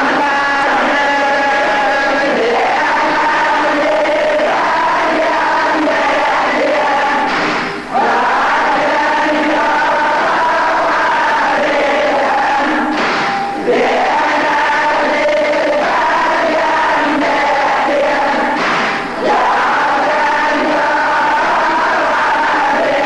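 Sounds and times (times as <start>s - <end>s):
choral backing: 0.0s - 23.0s
men chanting a lament: 0.0s - 23.0s.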